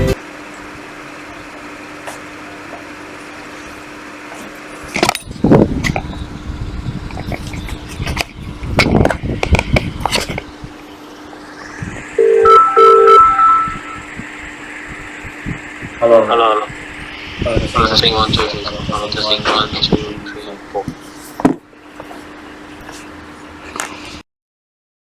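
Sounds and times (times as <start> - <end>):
low hum with faint hiss: 0.0 - 24.2.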